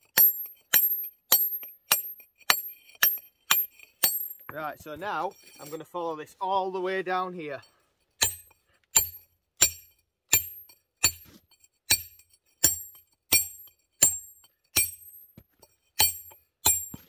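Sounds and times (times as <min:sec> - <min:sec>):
hammer striking metal chisel: 0:00.0 - 0:05.8, 0:08.2 - 0:17.0.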